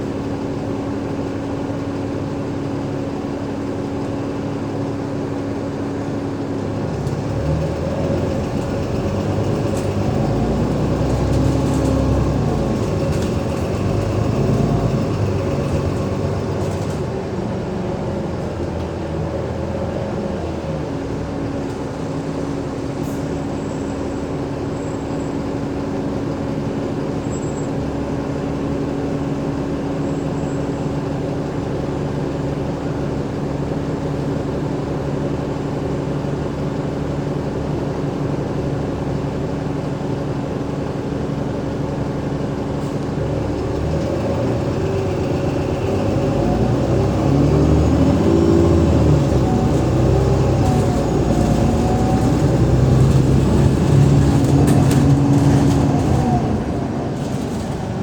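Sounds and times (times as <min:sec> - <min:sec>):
bus diesel engine humming: 0:00.0 - 0:58.0.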